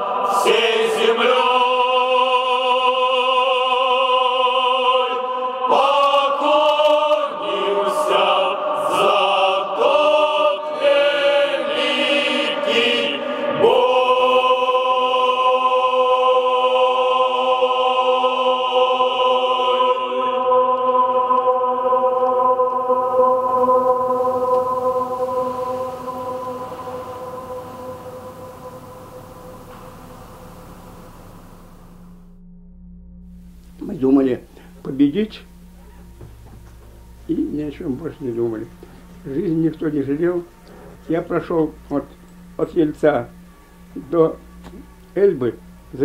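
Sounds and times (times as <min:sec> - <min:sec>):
male choir singing: 0:00.0 - 0:30.0, 0:37.2 - 0:46.0.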